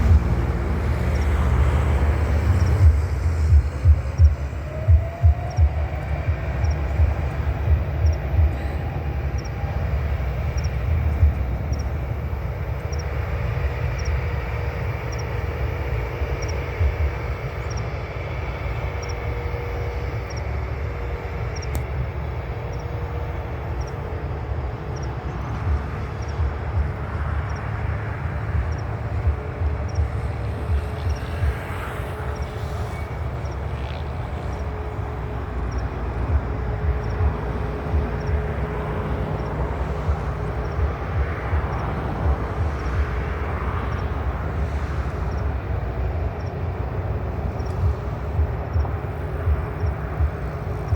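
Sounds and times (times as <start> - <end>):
jet engines running: 0.0 - 50.9
wind buffeting microphone: 0.0 - 50.9.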